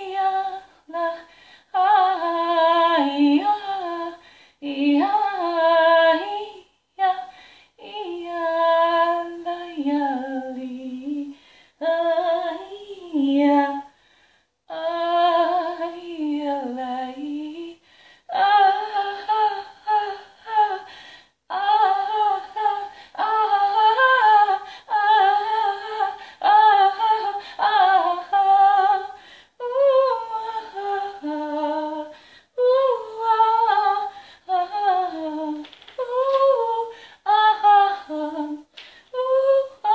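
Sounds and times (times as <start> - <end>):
woman singing unaccompanied: 0.0 - 14.0, 14.7 - 20.9, 21.5 - 39.9.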